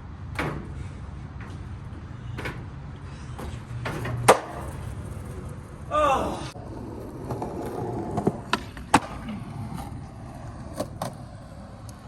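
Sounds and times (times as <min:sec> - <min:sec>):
skateboard rolling on concrete: 0:00.0 - 0:12.0
skateboard clack: 0:01.4 - 0:05.8, 0:06.6 - 0:12.0.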